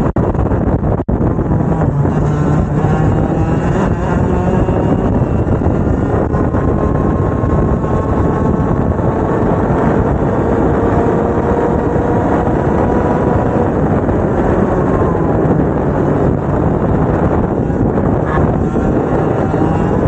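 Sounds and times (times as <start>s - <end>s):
kart engine buzzing: 0.0s - 20.0s.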